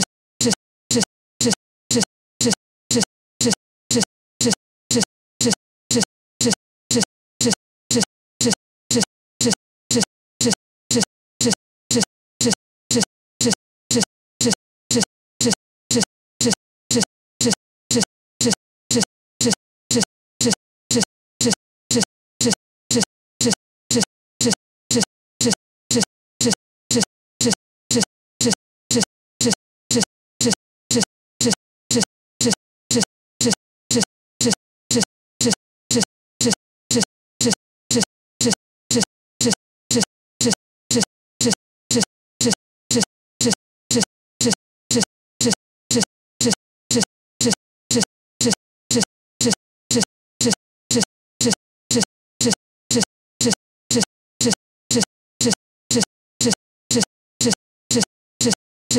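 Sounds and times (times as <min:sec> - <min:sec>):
stuttering repeated audio snippet: 0:00.0 - 0:58.6.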